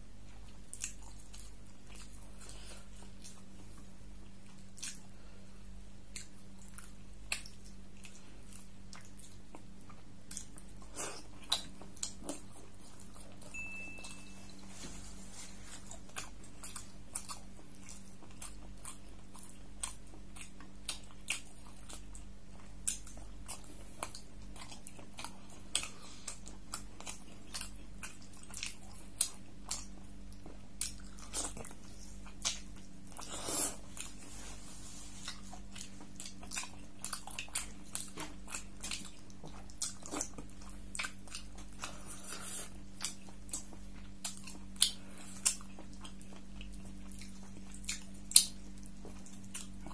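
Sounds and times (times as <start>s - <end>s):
steady low hum: 0.0s - 49.9s
chewing with wet mouth clicks: 0.2s - 5.2s, 6.1s - 14.3s, 15.7s - 34.2s, 35.2s - 49.9s.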